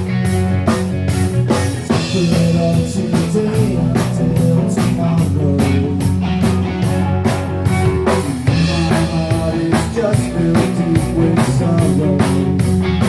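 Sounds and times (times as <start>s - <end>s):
bass and guitar: 0.0s - 13.0s
drum kit with cymbals: 0.0s - 13.0s.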